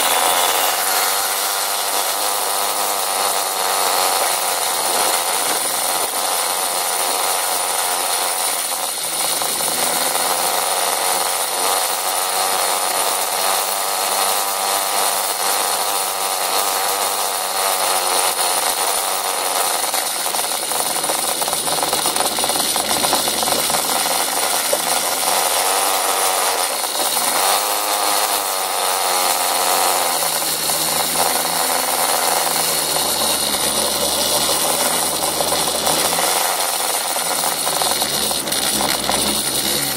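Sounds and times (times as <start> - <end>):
motor scooter engine buzzing: 0.0 - 39.9.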